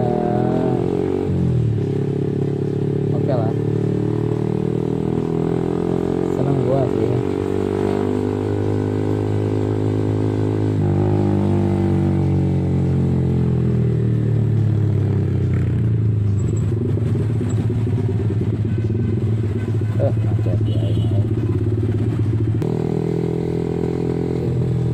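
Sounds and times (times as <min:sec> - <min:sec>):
motorcycle engine exhaust note: 0:02.5 - 0:24.9.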